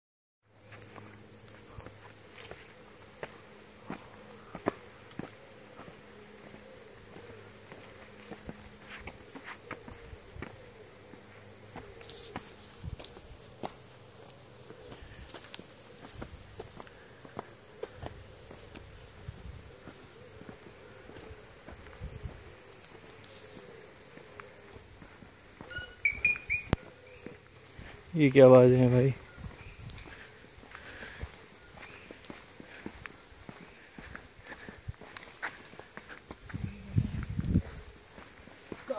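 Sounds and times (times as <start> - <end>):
footsteps on concrete path: 0.5 - 38.9
high-pitched insect trill: 0.5 - 38.9.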